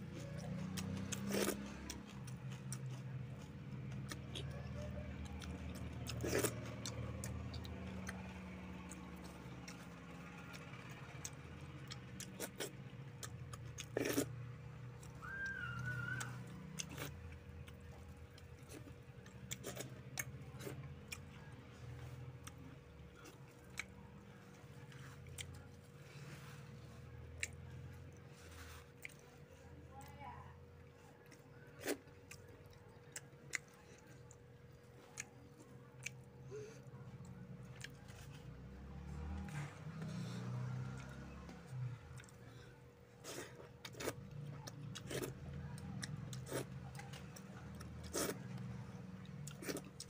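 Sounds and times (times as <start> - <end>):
fingers squishing through curry: 0.1 - 50.0
chewing and wet mouth clicks: 0.2 - 25.7, 26.4 - 30.1, 30.8 - 42.6, 43.2 - 50.0.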